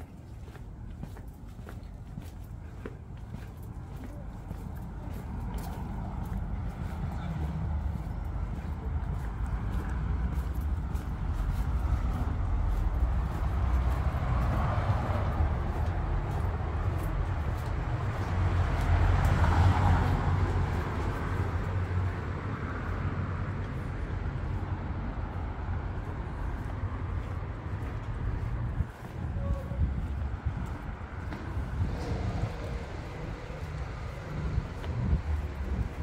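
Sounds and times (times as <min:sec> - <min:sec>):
low traffic rumble: 0:00.0 - 0:36.0
vehicles passing: 0:00.0 - 0:36.0.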